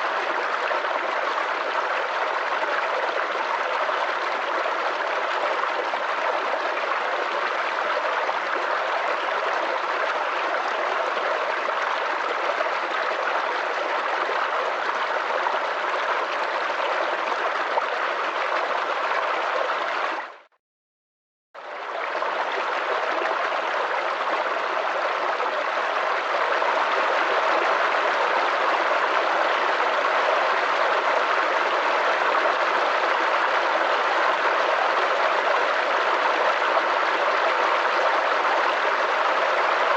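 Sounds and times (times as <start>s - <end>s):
brook babbling over stones: 0.0s - 20.5s, 21.6s - 39.9s.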